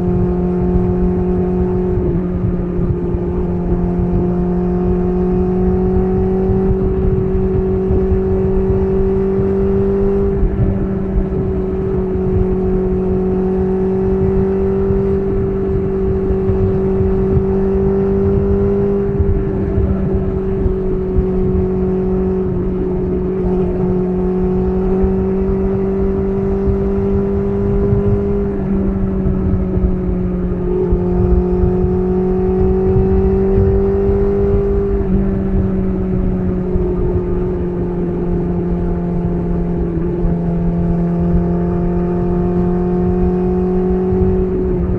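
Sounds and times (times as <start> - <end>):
motorcycle engine cruising: 0.0 - 44.9.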